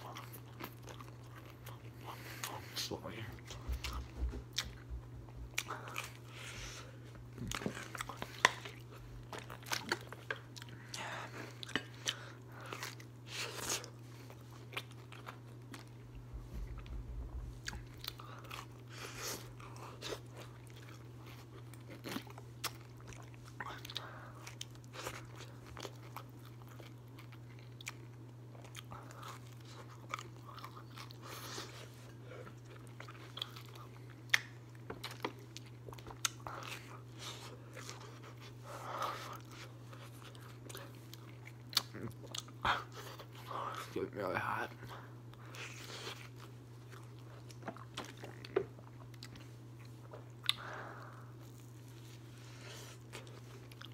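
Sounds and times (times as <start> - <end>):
steady low hum: 0.0 - 53.9
person chewing and biting: 3.4 - 44.0, 45.3 - 53.9.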